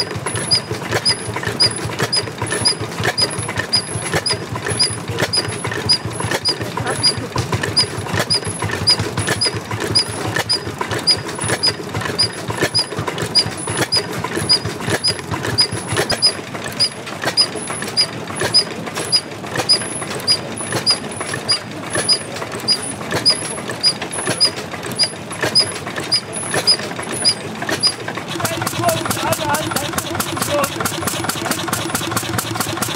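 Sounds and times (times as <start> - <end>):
stationary engine clattering: 0.0 - 32.9.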